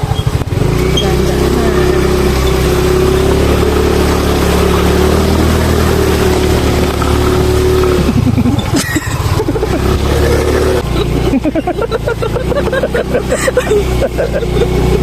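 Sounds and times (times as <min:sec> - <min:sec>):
vehicle engine under load: 0:00.0 - 0:15.0.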